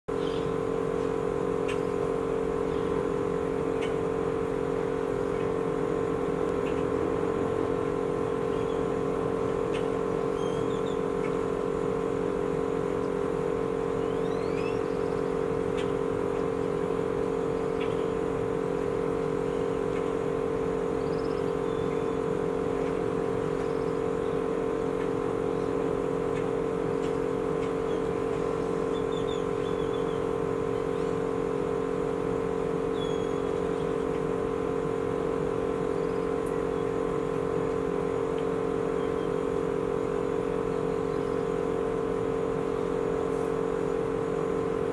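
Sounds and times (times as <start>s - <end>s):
steady mechanical hum: 0.1s - 44.9s.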